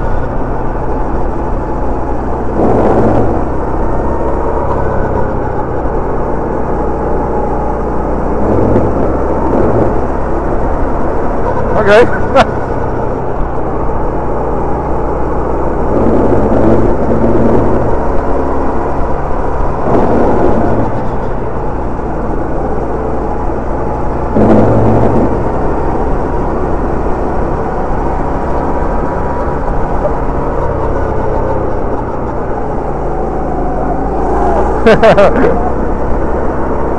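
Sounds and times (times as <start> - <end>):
kart engine running: 0.0 - 36.9
road and wind noise: 0.0 - 36.9.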